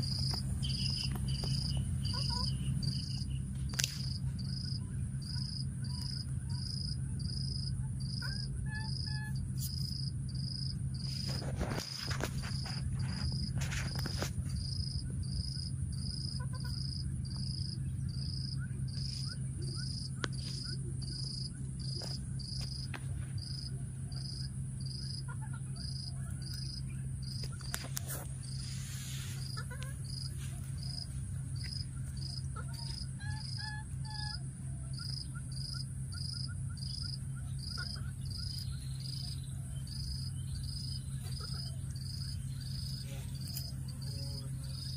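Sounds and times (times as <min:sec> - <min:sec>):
insect chirping: 0:00.0 - 0:44.9
steady low hum: 0:00.0 - 0:44.9.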